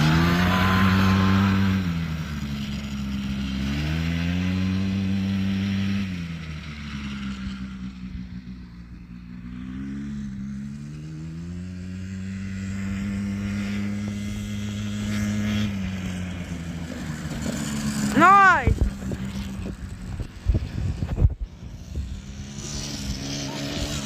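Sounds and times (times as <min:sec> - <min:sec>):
small vehicle engine revving: 0:00.0 - 0:24.0.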